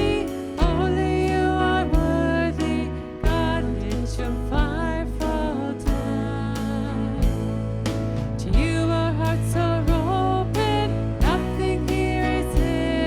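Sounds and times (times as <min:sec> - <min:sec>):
band with bass and drums: 0:00.0 - 0:13.0
lead vocal singing: 0:00.0 - 0:13.0.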